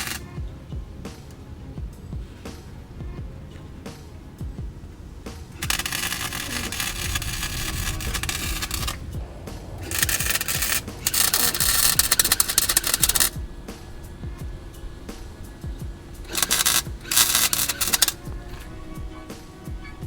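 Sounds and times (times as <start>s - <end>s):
welder crackling hiss: 0.0s - 0.4s, 3.9s - 20.0s.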